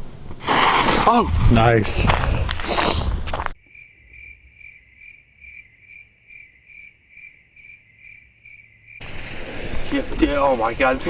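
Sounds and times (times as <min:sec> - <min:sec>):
crickets chirping: 0:01.8 - 0:11.0.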